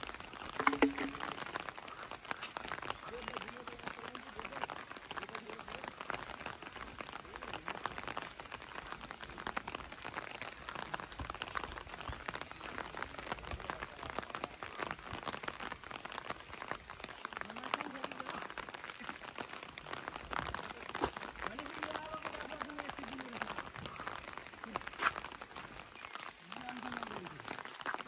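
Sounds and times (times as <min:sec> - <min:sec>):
drizzle drops crackling: 0:00.0 - 0:28.0.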